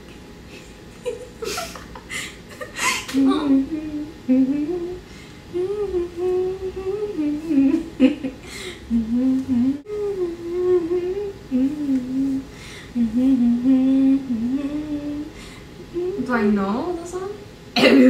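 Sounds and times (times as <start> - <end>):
woman humming: 1.5 - 17.1.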